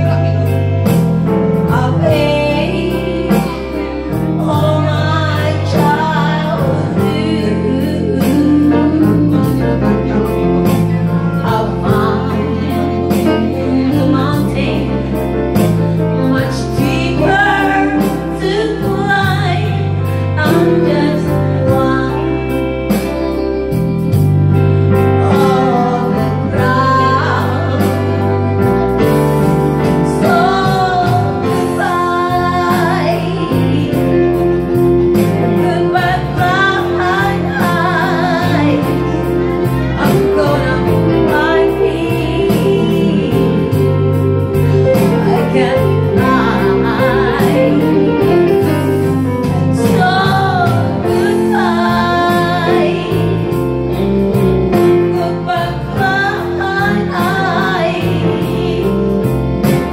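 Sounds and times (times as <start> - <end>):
backing music with bass line: 0.0 - 59.9
woman singing into a microphone: 0.0 - 59.9.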